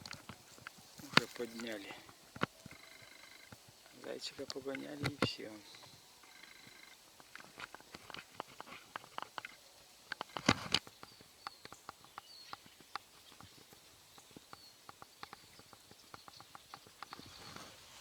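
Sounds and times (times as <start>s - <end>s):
footsteps crackling leaves and twigs: 0.0s - 18.0s.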